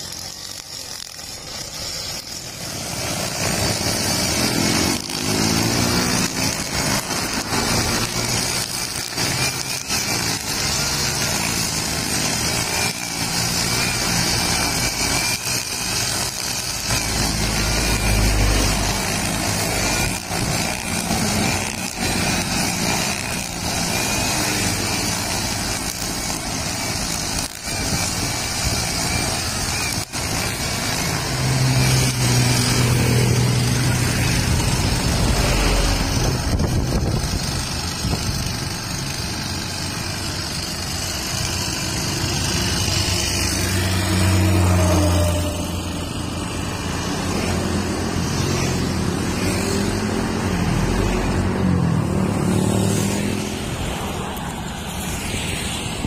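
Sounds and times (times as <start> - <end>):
brush cutter engine revving: 0.0 - 56.0
nylon line cutting grass: 0.0 - 56.0.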